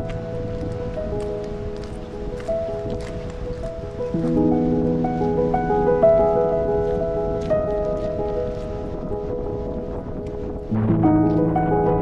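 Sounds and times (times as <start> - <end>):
soft sustained background music: 0.0 - 12.0.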